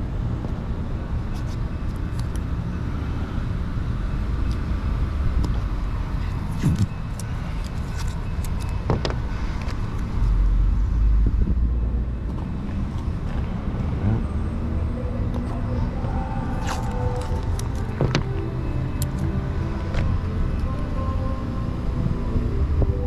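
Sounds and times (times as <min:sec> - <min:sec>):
car traffic rumble: 0:00.0 - 0:23.0.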